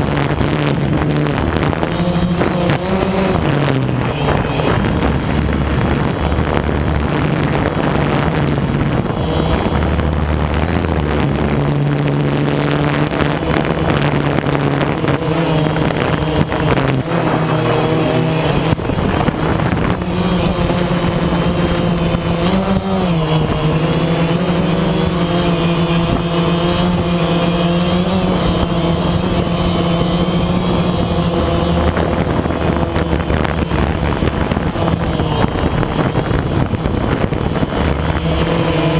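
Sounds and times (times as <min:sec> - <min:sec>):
motor vehicle engine humming: 0:00.0 - 0:38.9.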